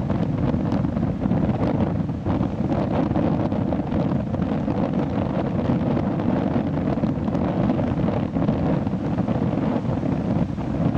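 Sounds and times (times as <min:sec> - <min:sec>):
surf on beach: 0:00.0 - 0:10.9
wind buffeting microphone: 0:00.0 - 0:10.9.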